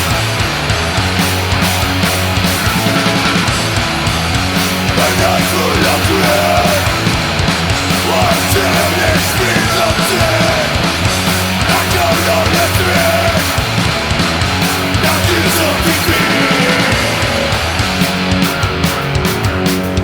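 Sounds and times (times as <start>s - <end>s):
bass guitar: 0.0s - 20.0s
distorted electric guitars: 0.0s - 20.0s
drums and cymbal hits: 0.0s - 20.0s.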